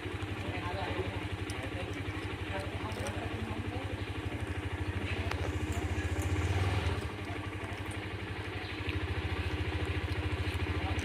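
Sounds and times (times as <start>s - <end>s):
engine idling with low throb: 0.0s - 11.0s.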